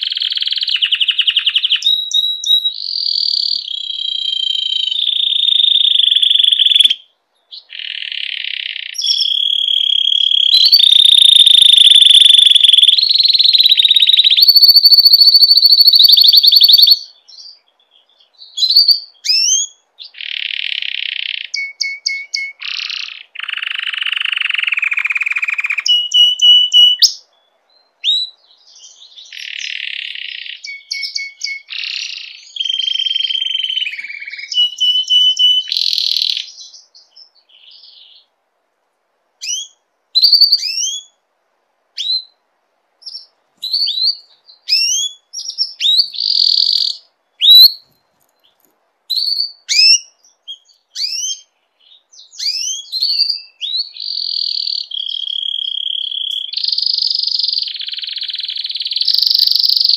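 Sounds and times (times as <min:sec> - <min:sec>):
canary singing: 0:00.0 - 0:38.3, 0:39.4 - 0:41.2, 0:43.0 - 0:59.9.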